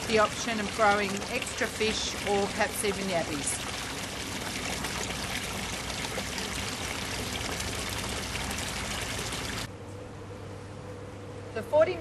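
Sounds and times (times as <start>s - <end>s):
water splashing into fish tank: 0.0s - 9.7s.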